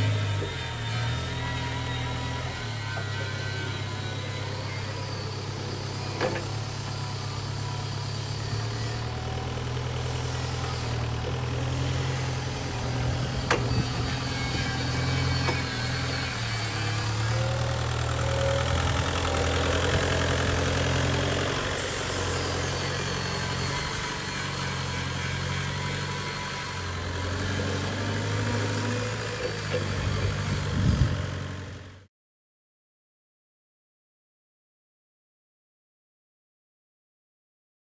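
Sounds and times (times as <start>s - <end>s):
forklift diesel engine running: 0.0s - 32.0s.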